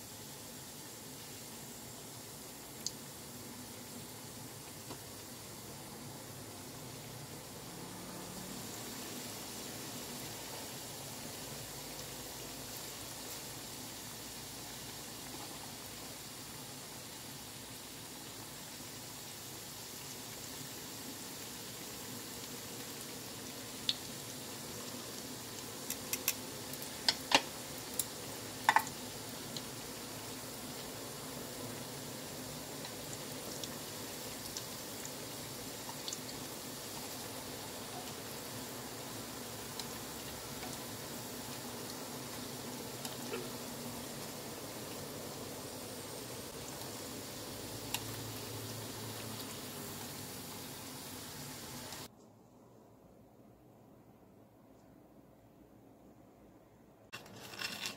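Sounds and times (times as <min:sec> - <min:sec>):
oil sizzling in pan: 0:00.0 - 0:52.1.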